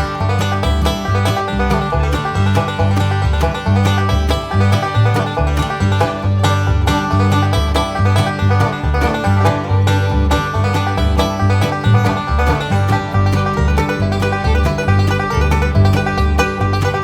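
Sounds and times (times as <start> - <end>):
bass line: 0.0 - 17.0
plucked banjo: 0.0 - 17.0.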